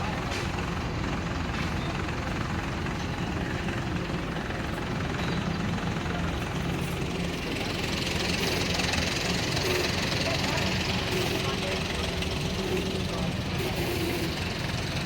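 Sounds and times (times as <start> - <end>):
engines rumbling: 0.0 - 15.0.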